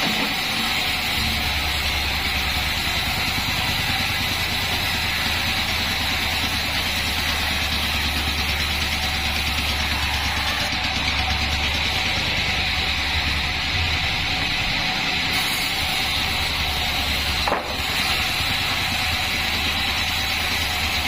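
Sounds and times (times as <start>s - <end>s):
band sawmill running: 0.0s - 21.0s.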